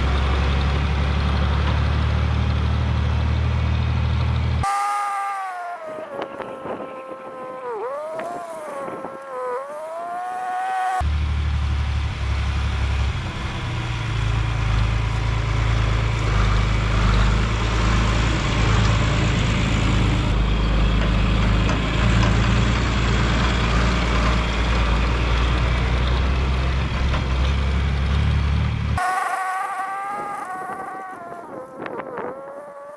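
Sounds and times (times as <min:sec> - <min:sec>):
heavy machinery engine droning: 0:00.0 - 0:32.4.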